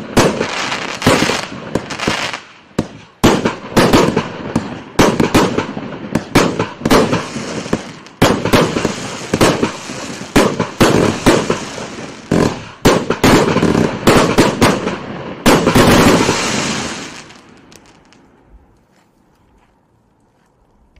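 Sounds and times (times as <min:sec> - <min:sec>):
firework bangs: 0:00.0 - 0:18.4
firework crackling: 0:00.0 - 0:18.4.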